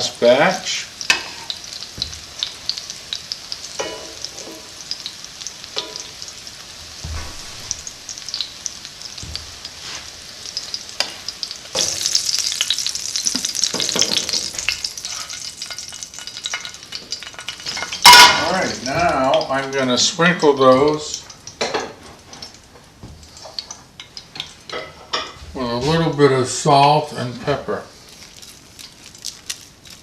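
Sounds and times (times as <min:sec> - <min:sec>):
chicken frying in hot oil: 0:00.0 - 0:30.0.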